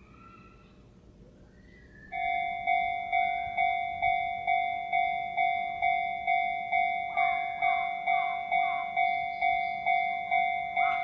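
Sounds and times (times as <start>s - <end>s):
level-crossing warning bell ringing: 2.1s - 11.0s.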